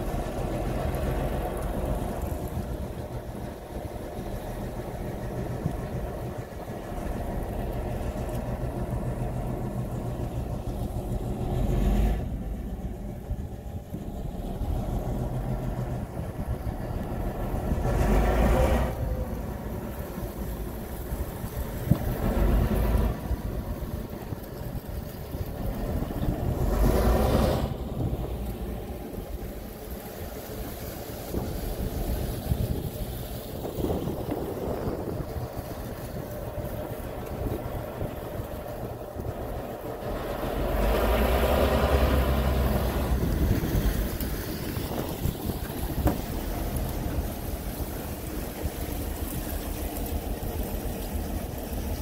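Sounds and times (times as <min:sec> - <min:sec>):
diesel engine humming: 0:00.0 - 0:52.0
rushes of noise: 0:00.0 - 0:52.0.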